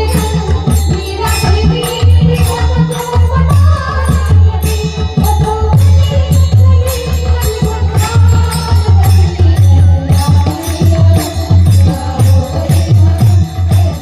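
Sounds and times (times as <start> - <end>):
jingling small cymbals: 0.0 - 14.0.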